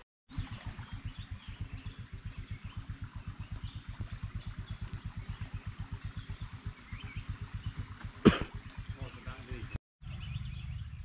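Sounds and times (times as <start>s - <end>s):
small engine idling: 0.3s - 11.0s.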